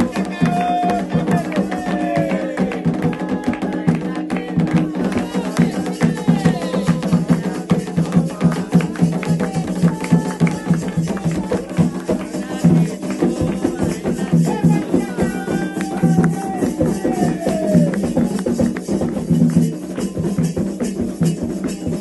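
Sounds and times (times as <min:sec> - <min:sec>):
rapid hand drums and percussion: 0:00.0 - 0:22.0
voices singing: 0:00.0 - 0:22.0.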